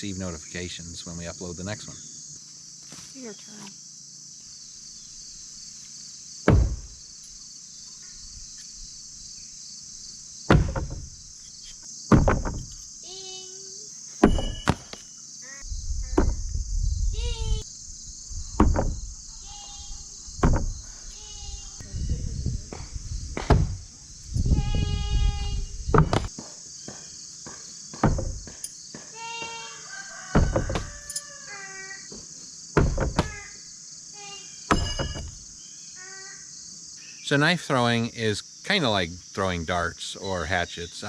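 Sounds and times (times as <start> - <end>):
crickets chirring: 0.0 - 41.0
high insect drone: 0.0 - 41.0.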